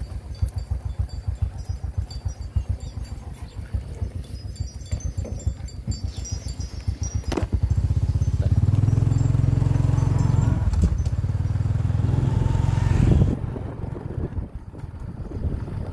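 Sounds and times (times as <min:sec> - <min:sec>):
small motorcycle engine running: 0:00.0 - 0:15.9.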